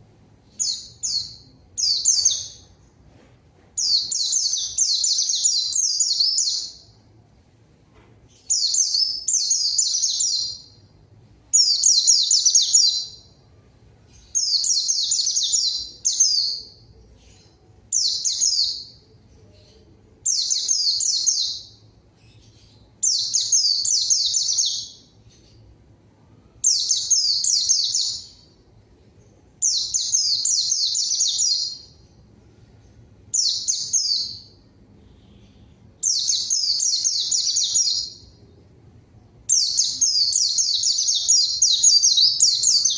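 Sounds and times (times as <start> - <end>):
bird twittering song: 0.4 - 3.0, 3.8 - 7.0, 8.3 - 10.8, 11.5 - 13.4, 14.1 - 25.7, 26.6 - 28.6, 29.2 - 32.1, 32.8 - 34.6, 35.2 - 38.6, 39.4 - 42.9.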